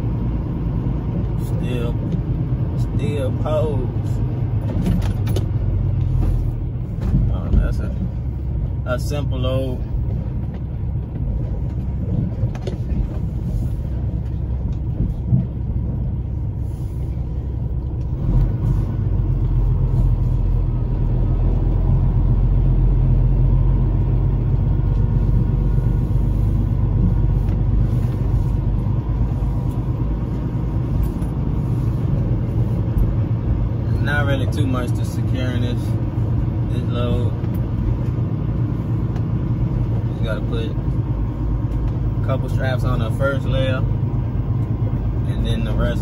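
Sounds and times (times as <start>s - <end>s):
truck diesel engine running: 0.0s - 46.0s.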